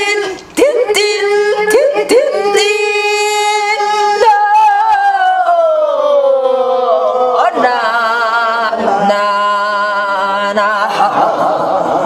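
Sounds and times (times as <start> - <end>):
woman singing with vibrato: 0.0 - 12.0.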